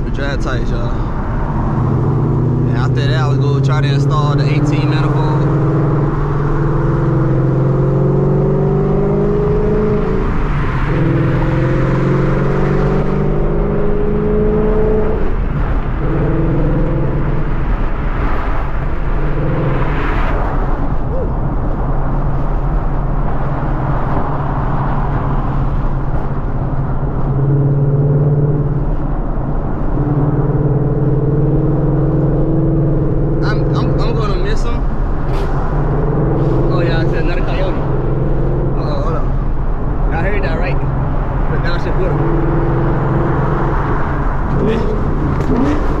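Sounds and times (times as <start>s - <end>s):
car engine revving: 0.0s - 46.0s
road noise: 0.0s - 46.0s.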